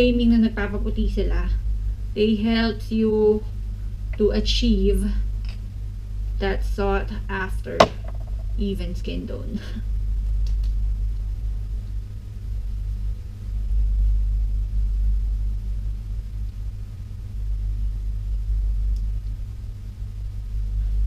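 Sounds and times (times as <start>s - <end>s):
deep rumble: 0.0s - 21.0s
steady low hum: 0.0s - 21.0s.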